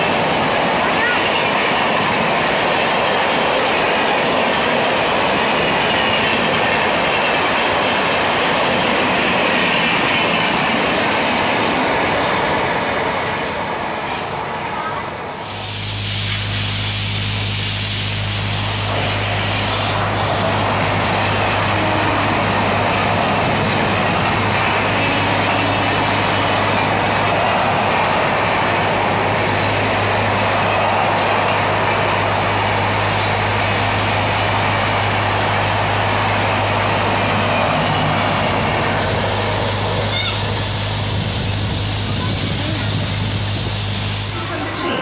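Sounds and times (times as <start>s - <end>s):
wheels rushing on rail: 0.0s - 45.0s.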